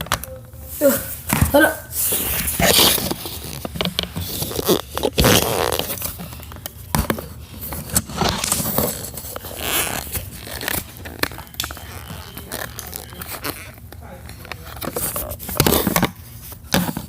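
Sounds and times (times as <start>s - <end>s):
slime squelching: 0.8s - 17.0s.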